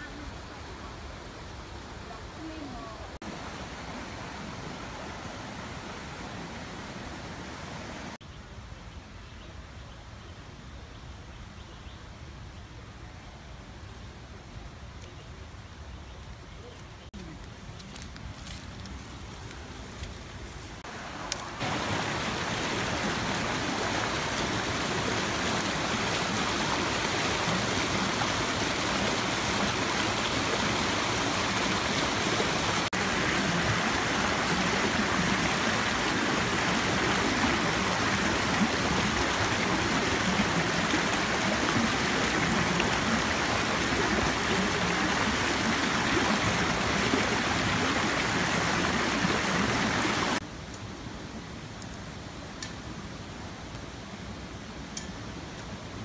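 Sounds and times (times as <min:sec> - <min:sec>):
forest stream flowing: 0:00.0 - 0:56.0.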